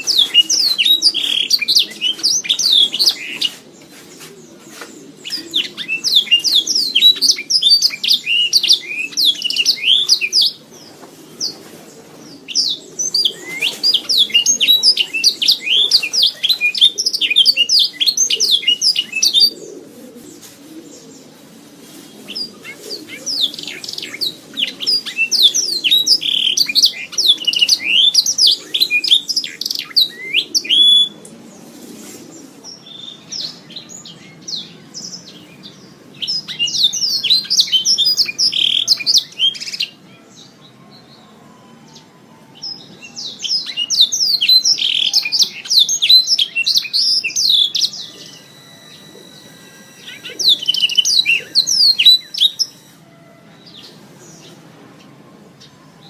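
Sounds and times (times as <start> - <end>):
canary singing trills: 0.0 - 21.4, 22.0 - 31.4, 32.7 - 56.0
faint low background murmur: 0.0 - 56.0.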